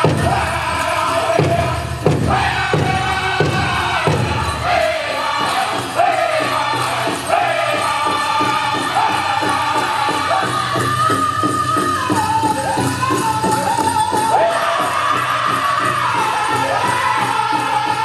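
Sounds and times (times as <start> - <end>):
big drum beating fast: 0.0 - 18.0
group singing high phrases: 0.0 - 18.0.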